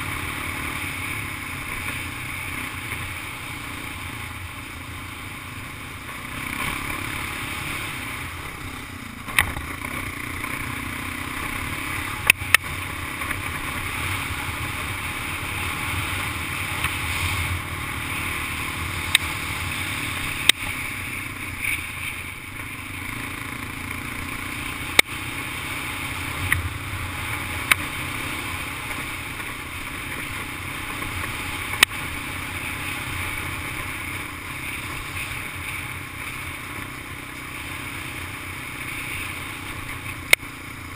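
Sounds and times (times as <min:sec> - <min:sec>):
atv engine running: 0:00.0 - 0:40.9
road and wind noise: 0:00.0 - 0:40.9.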